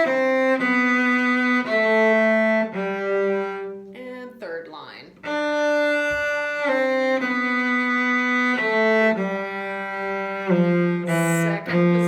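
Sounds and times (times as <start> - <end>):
bowed cello long notes: 0.0 - 3.9, 5.2 - 12.0.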